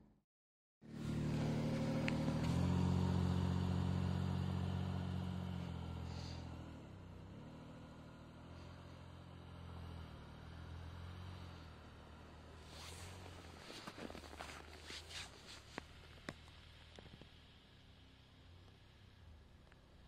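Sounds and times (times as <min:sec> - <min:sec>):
car engine revving: 0:00.8 - 0:18.8.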